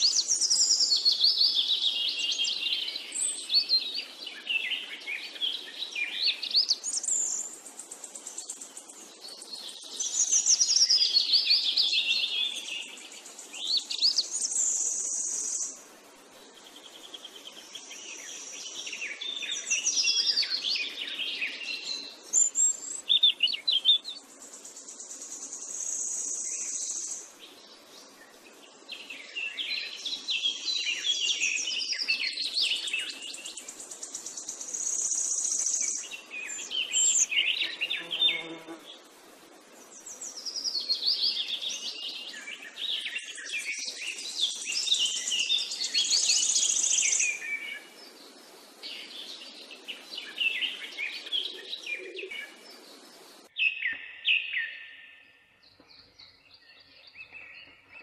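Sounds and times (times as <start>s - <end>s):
birds chirping and warbling: 0.0s - 58.0s.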